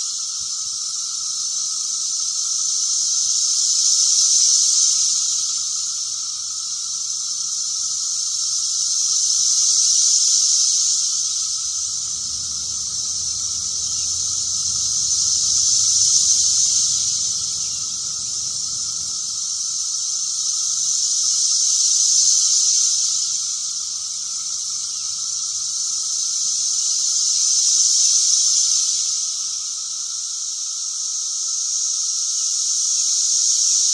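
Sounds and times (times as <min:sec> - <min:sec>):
cicadas singing: 0:00.0 - 0:33.9.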